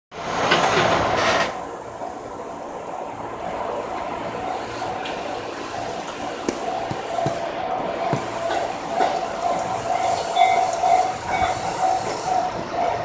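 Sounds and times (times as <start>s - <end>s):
train running: 0.2s - 13.0s.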